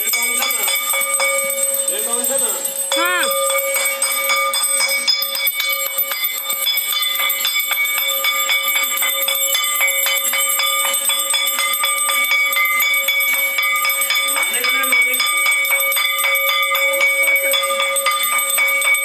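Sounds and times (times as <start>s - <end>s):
metal hand bell ringing: 0.0s - 19.0s.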